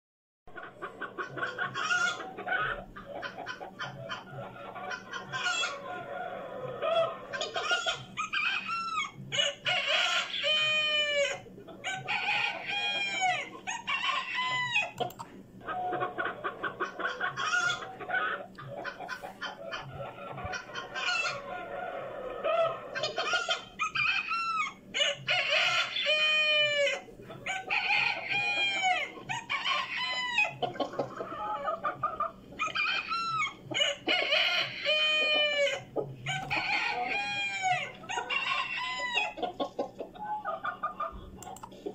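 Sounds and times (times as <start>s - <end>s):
chickens clucking and squawking: 0.5s - 41.9s
roosters crowing: 0.6s - 41.9s.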